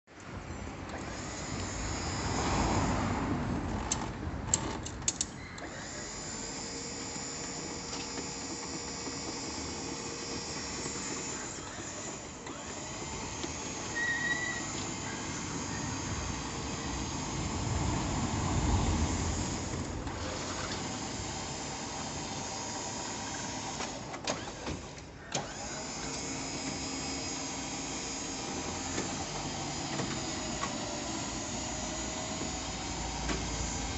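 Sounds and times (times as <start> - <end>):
vehicle engine and road noise: 0.1 - 26.8, 27.7 - 33.9.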